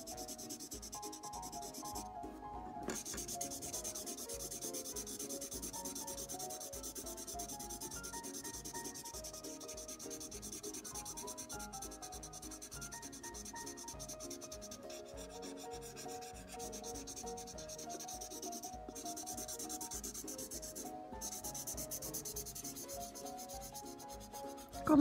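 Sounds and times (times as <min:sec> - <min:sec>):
pen scrubbing on paper: 0:00.0 - 0:02.1, 0:02.9 - 0:25.0.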